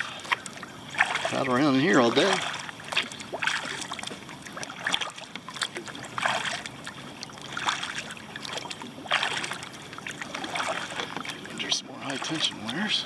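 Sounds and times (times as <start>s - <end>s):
kayak paddle splashing: 0.0s - 13.0s.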